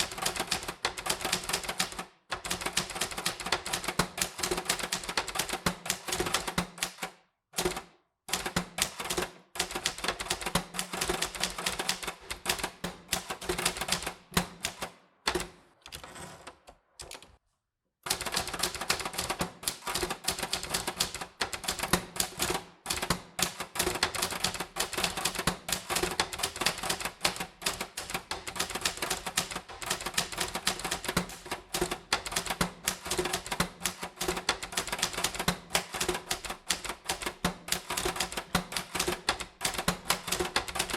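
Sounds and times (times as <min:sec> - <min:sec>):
typewriter keys clacking: 0:00.0 - 0:17.4, 0:18.1 - 0:40.9.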